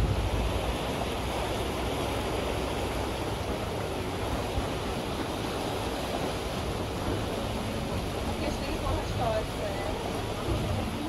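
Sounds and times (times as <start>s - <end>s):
boat engine rumble: 0.0s - 11.0s
water rushing: 0.0s - 11.0s
wind: 0.0s - 11.0s.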